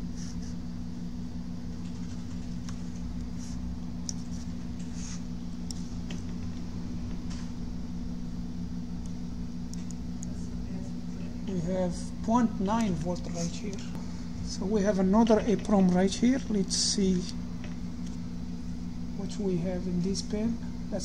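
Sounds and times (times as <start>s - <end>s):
low equipment hum: 0.0s - 21.0s.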